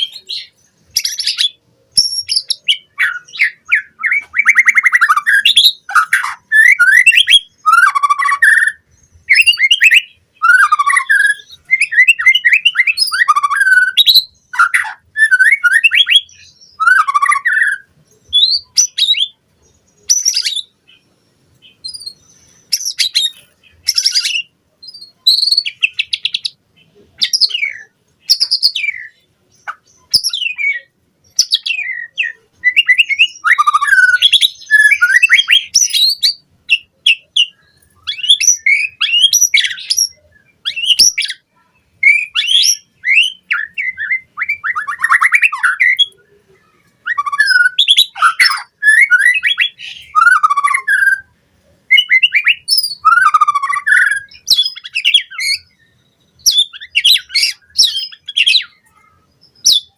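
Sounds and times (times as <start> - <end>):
bird singing whistled phrases: 0.0 - 19.4, 20.0 - 21.0, 21.8 - 41.4, 42.0 - 51.3, 51.9 - 59.9.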